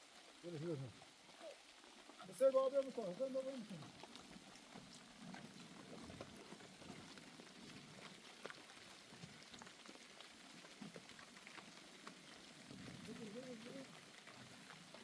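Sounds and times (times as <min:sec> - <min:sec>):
faint steady rain: 0:00.0 - 0:15.0
raindrops ticking: 0:00.0 - 0:15.0.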